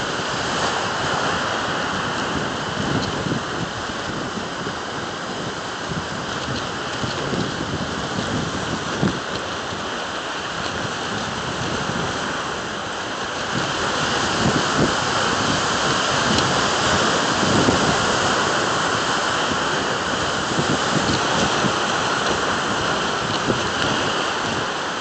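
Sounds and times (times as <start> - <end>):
surf breaking on rocky shore: 0.0 - 25.0.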